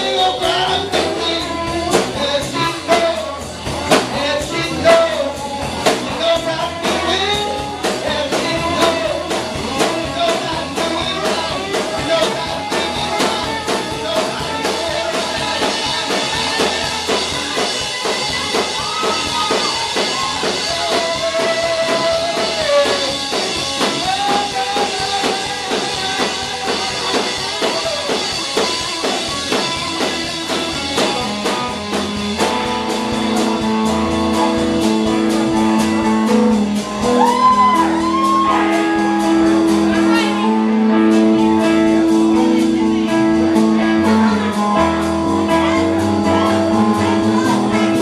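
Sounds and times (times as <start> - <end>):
drums: 0.0 - 48.0
electric guitar: 0.0 - 48.0
live rock band playing: 0.0 - 48.0
person singing: 0.0 - 48.0.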